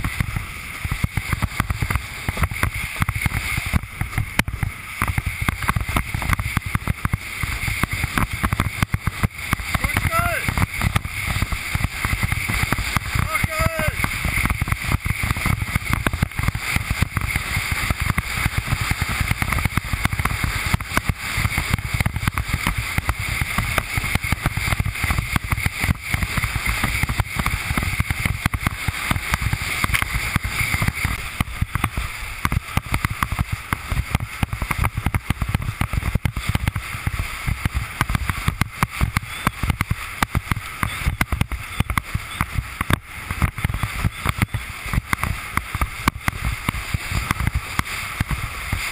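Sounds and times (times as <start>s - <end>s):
hull slapping waves: 0.0s - 48.9s
water rushing under board: 0.0s - 48.9s.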